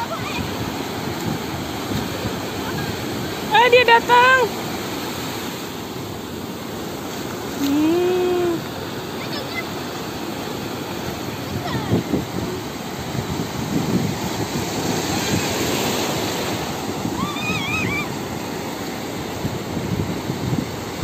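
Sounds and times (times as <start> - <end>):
shallow surf washing: 0.0 - 21.0
waves breaking offshore: 0.0 - 21.0.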